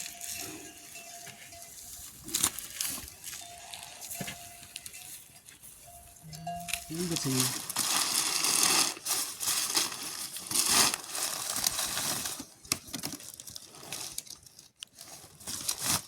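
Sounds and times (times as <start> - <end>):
rustling and crinkling: 0.0 - 16.0.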